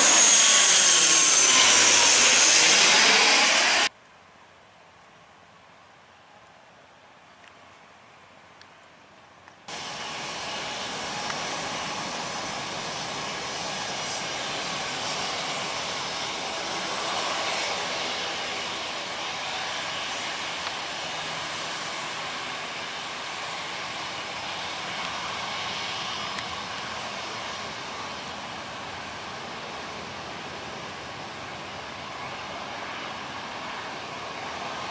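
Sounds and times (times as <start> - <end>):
airliner engines roaring: 0.0 - 3.9, 9.7 - 34.9.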